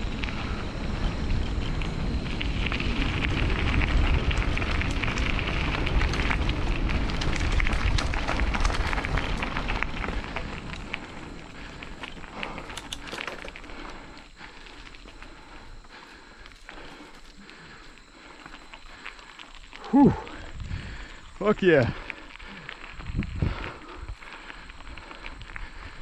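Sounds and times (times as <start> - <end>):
bike tyres on dirt trail: 0.0 - 26.0.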